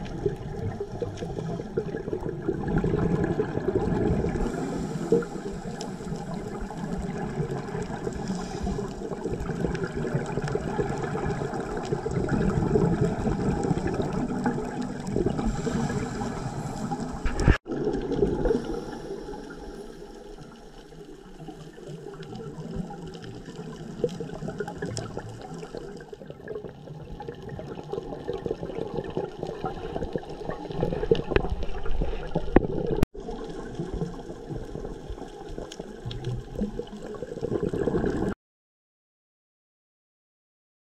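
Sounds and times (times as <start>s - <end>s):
diver's regulator and bubbles: 0.0s - 38.4s.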